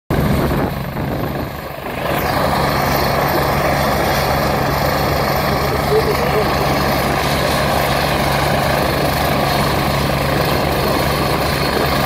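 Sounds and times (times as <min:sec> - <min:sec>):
helicopter rotor and turbine whine: 0:00.1 - 0:12.0.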